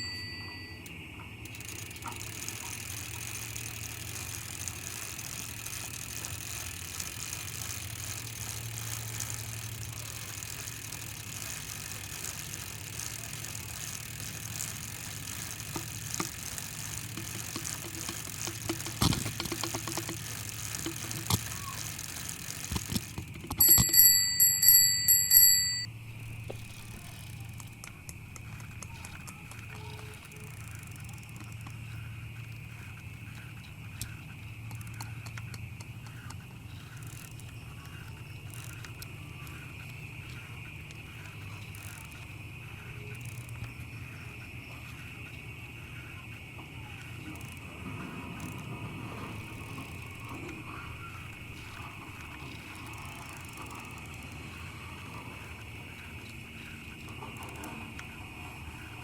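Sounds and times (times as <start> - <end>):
night insects droning: 0.0 - 23.1, 25.9 - 59.0
bicycle riding rumble: 0.0 - 59.0
small clicks and ticks: 0.0 - 59.0.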